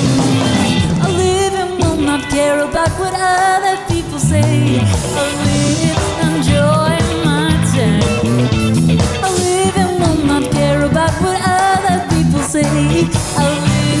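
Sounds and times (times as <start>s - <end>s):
funk rock band playing live: 0.0s - 14.0s.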